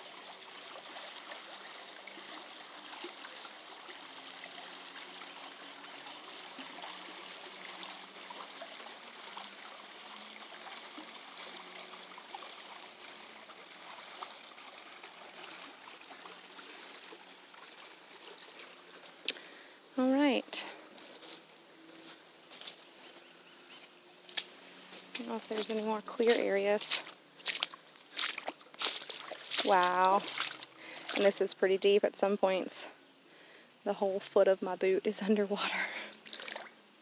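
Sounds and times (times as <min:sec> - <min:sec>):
creek water rushing: 0:00.0 - 0:34.5, 0:35.1 - 0:37.0.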